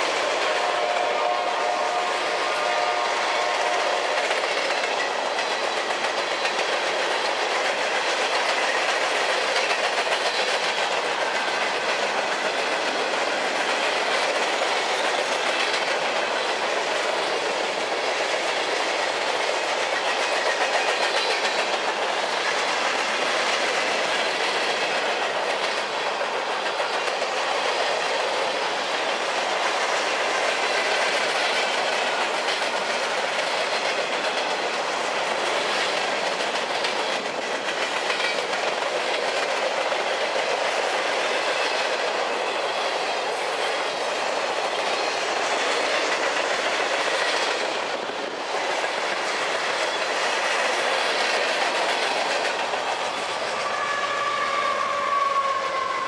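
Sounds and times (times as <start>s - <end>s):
wheels clacking over rail joints: 0.0s - 54.0s
steel wheels rolling on rail: 0.0s - 56.0s.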